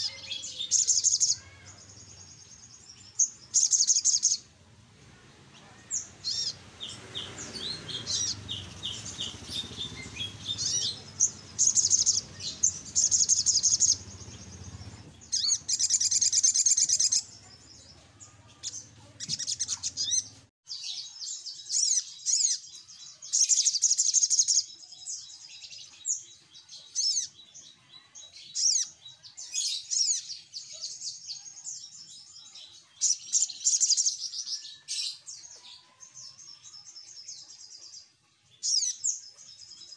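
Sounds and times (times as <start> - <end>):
sunbirds chirping and trilling: 0.0 - 39.9.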